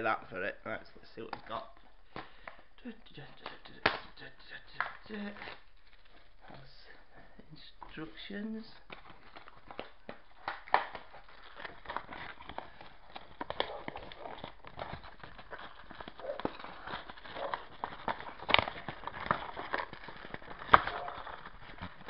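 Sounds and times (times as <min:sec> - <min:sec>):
packaging rustling and crinkling: 0:00.7 - 0:22.0.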